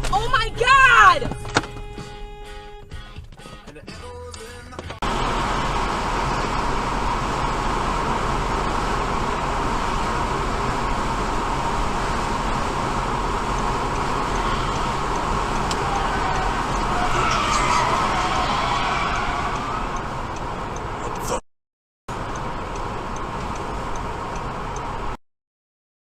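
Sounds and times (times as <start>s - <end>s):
road noise of moving vehicle: 0.0s - 21.4s, 22.1s - 25.2s.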